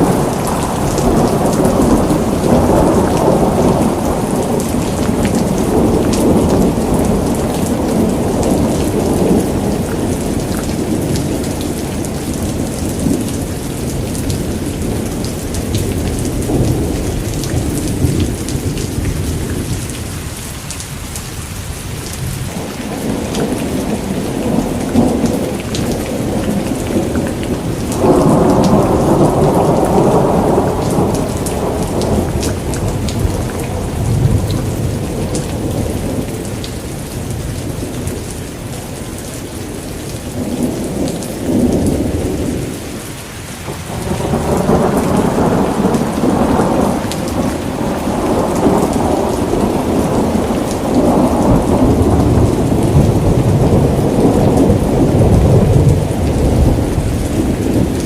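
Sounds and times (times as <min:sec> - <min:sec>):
thunder rumbling: 0:00.0 - 0:20.1, 0:22.2 - 0:39.2, 0:43.6 - 0:58.0
steady rain: 0:00.0 - 0:58.0.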